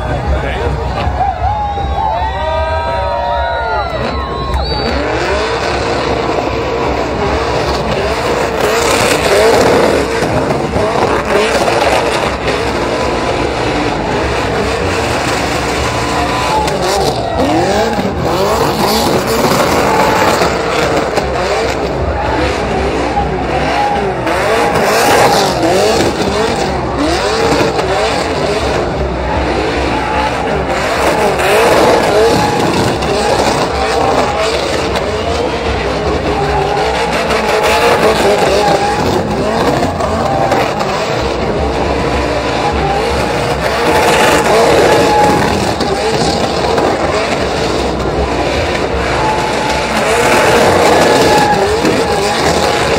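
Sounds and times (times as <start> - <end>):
spinning tyres squealing: 0.0 - 52.9
truck engines revving: 0.0 - 52.9.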